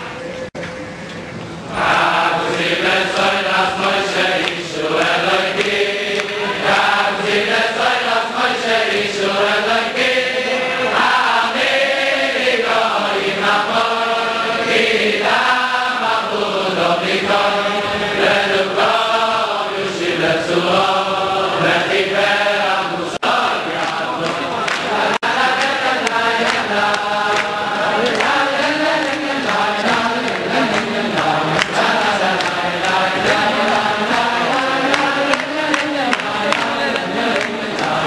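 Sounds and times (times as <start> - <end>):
men singing chant-like melody: 1.8 - 38.0.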